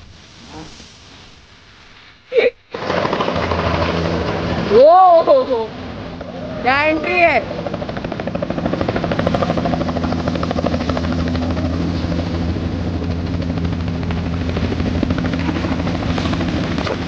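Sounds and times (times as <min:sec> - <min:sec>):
helicopter rotor chopping: 0:02.7 - 0:17.0.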